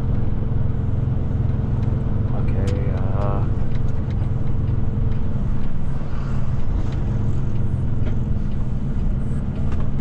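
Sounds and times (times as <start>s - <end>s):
road noise inside cab: 0.0s - 10.0s
truck diesel engine hum: 0.0s - 10.0s.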